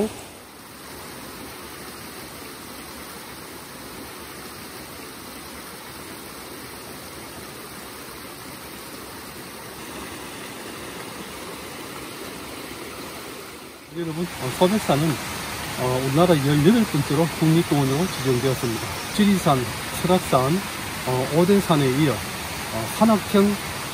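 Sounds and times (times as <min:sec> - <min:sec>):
stream running over rocks: 0:00.0 - 0:23.9.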